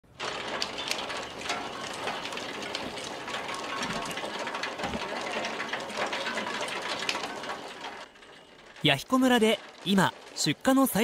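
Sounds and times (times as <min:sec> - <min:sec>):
nuts clicking through chutes: 0:00.0 - 0:11.0
steel rollers rattling: 0:00.0 - 0:11.0.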